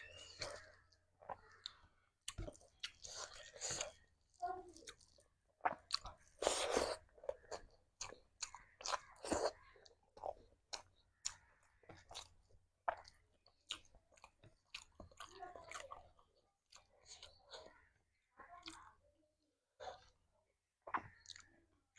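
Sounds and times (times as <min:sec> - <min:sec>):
chewing food with mouth smacks: 0:00.0 - 0:18.9, 0:19.8 - 0:21.9.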